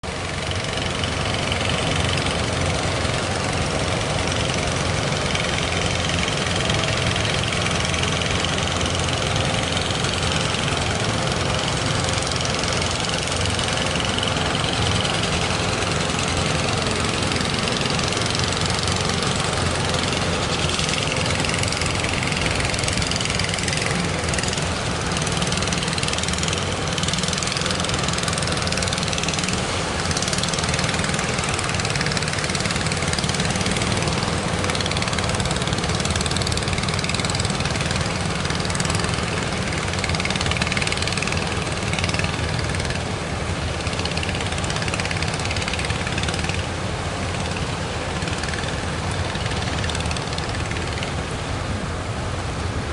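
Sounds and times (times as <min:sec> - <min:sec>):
boat engines running: 0:00.0 - 0:52.9.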